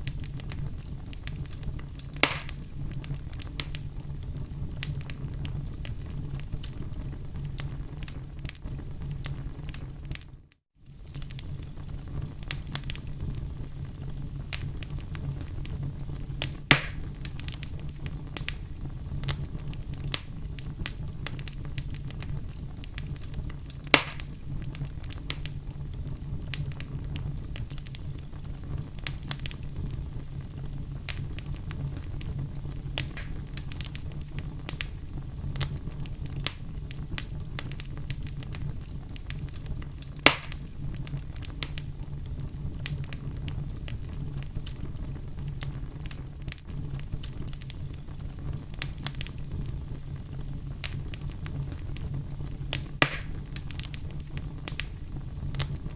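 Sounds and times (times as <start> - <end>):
sharp snaps of burning wood: 0.0 - 55.9
wood fire crackling: 0.0 - 55.9.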